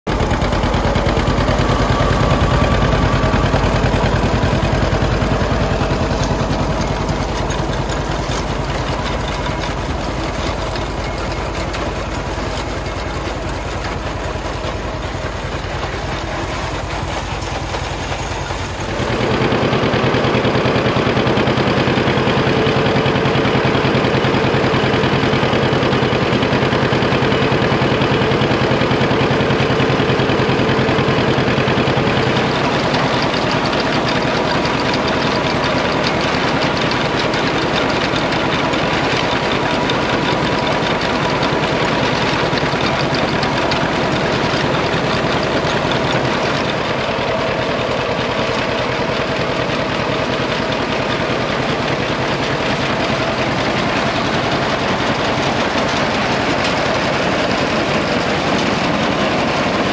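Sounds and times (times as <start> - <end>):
tractor engine running under load: 0.0 - 59.9
binder machinery clattering: 0.1 - 59.9.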